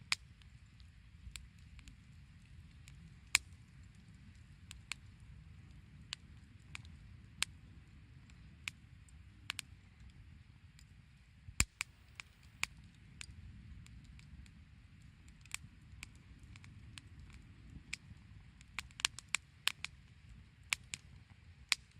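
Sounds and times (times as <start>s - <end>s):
firewood crackling and popping: 0.0s - 21.9s
low steady rumble: 0.0s - 21.9s.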